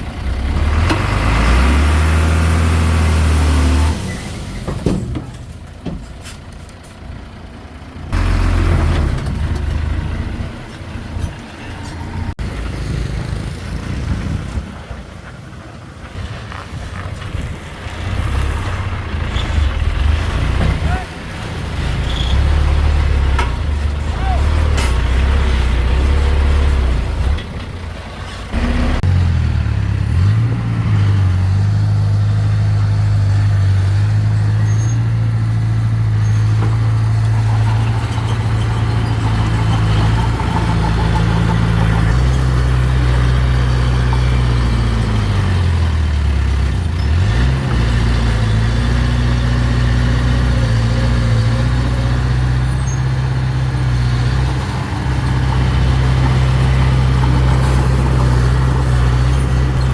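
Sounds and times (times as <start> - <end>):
diesel bulldozer engine revving: 0.0 - 15.0, 16.1 - 59.9.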